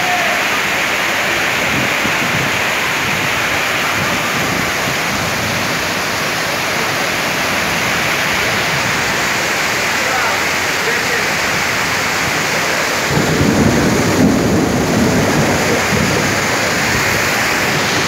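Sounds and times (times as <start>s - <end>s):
heavy rain pouring on street: 0.0s - 18.0s.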